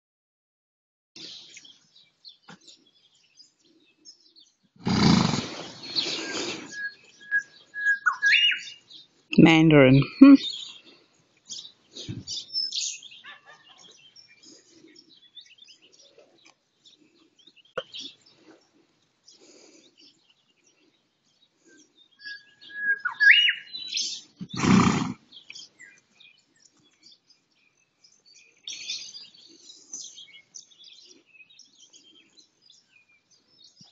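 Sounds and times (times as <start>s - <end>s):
birds chirping: 1.2s - 33.9s.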